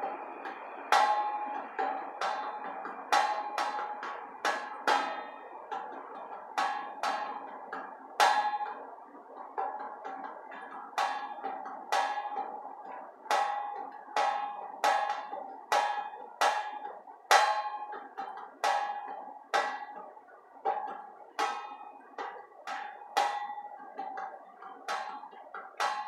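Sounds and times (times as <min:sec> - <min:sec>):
sharp bell-like knocks: 0:00.0 - 0:26.0.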